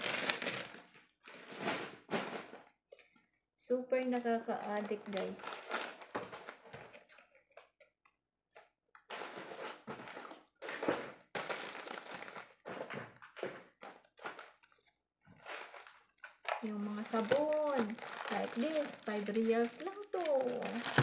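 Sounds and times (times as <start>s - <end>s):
plastic wrappers crinkling: 0.0s - 3.0s, 4.0s - 7.8s, 8.6s - 21.0s.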